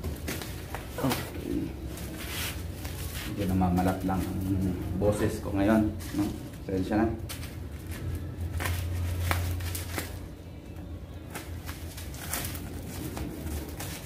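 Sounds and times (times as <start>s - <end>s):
bubble wrap crinkling: 0.0s - 14.0s
steady low hum: 0.0s - 14.0s.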